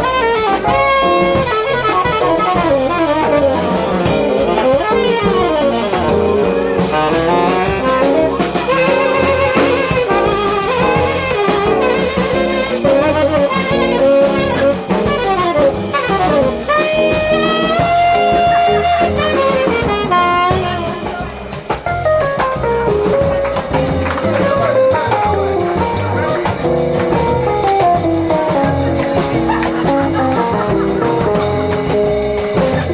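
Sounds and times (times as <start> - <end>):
drum kit: 0.0 - 32.9
horn playing melody: 0.0 - 32.9.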